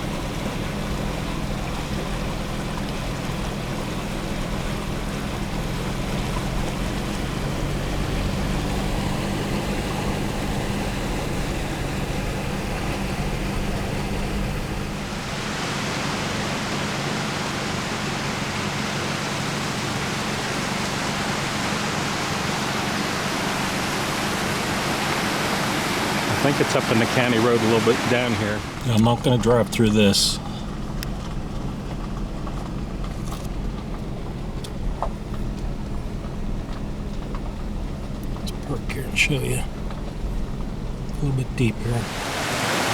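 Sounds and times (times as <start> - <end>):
flooded river rushing: 0.0 - 36.7, 37.8 - 42.9
car driving hum: 0.0 - 42.9.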